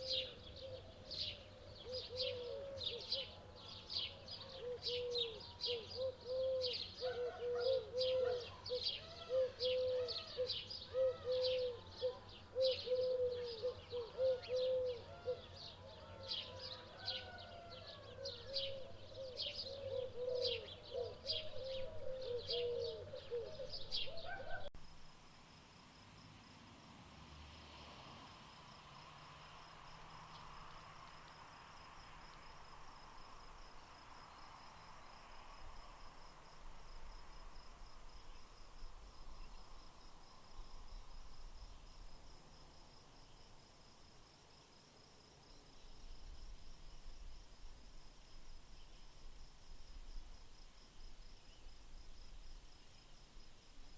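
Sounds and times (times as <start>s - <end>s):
insect trill: 4.0s - 53.9s.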